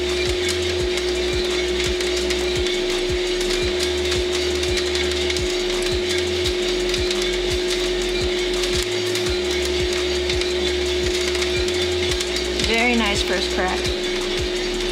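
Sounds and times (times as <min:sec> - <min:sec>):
coffee beans popping: 0:00.0 - 0:14.9
coffee roaster humming: 0:00.0 - 0:14.9.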